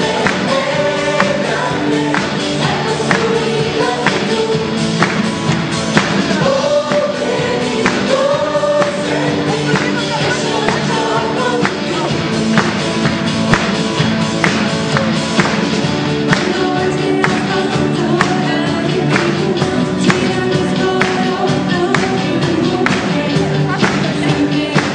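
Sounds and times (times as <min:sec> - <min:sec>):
choir singing with band: 0:00.0 - 0:24.9
drums steady beat: 0:00.0 - 0:24.9.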